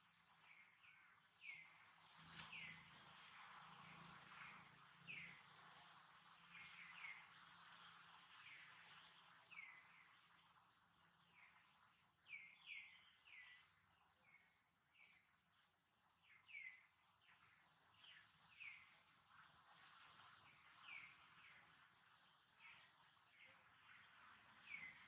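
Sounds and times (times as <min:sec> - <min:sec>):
pulsing insect trill: 0:00.0 - 0:25.0.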